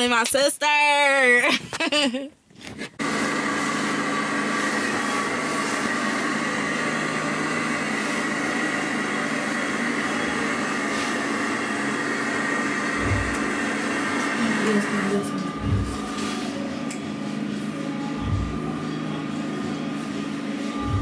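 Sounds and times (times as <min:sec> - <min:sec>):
fan whirring: 0:03.0 - 0:21.0.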